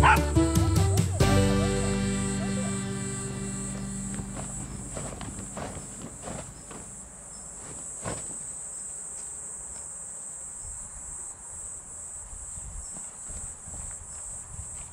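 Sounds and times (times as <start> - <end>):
insects chirring: 1.8 - 14.9.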